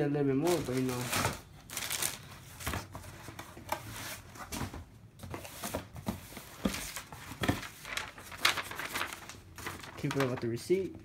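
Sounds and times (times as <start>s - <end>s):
paper rustling: 0.4s - 10.9s.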